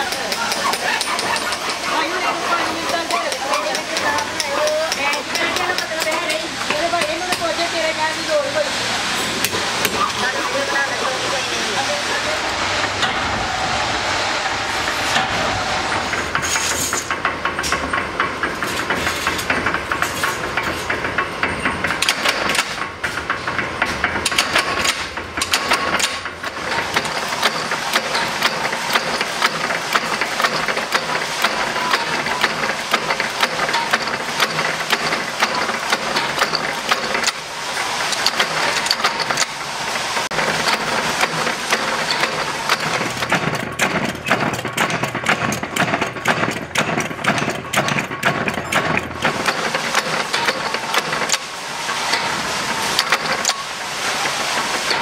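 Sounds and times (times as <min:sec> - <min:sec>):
workshop machine noise: 0:00.0 - 0:55.0.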